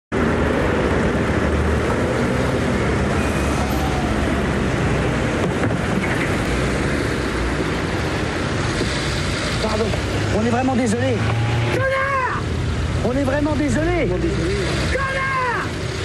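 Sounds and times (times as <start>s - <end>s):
car engines in city traffic: 0.1s - 16.0s.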